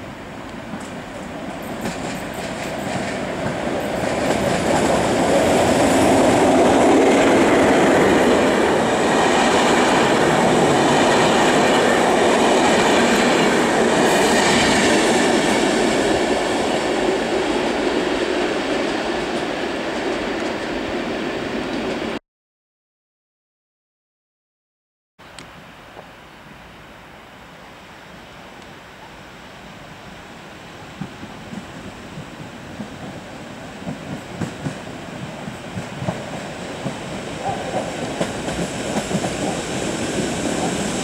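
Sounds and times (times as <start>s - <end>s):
train passing on rails: 0.0s - 22.2s, 29.6s - 41.0s.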